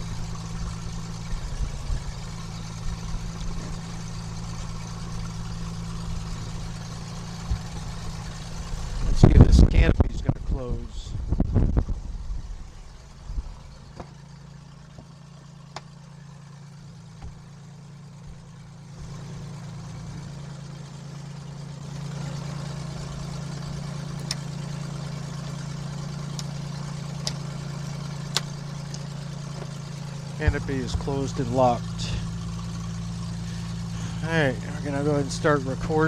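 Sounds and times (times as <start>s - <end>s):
airplane engine idling: 0.0s - 36.0s.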